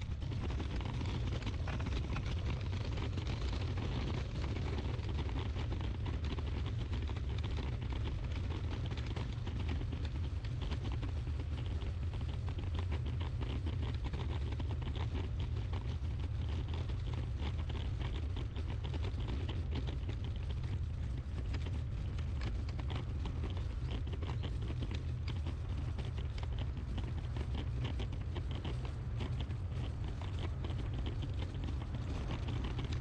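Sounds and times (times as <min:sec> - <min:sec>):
crackly patter of clicks: 0:00.0 - 0:33.0.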